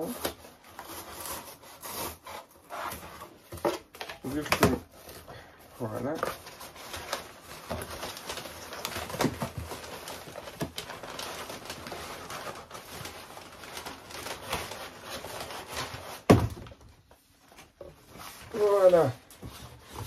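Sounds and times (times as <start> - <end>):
packing paper rustling and crinkling: 0.0 - 20.0.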